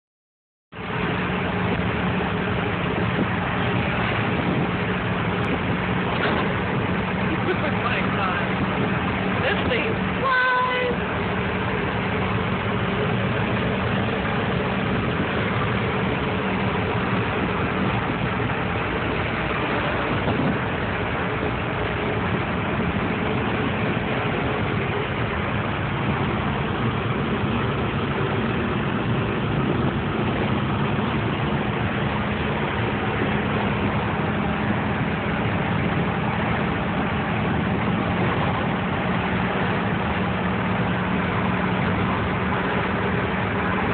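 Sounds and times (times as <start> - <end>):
truck engine and road noise: 0.7 - 43.9.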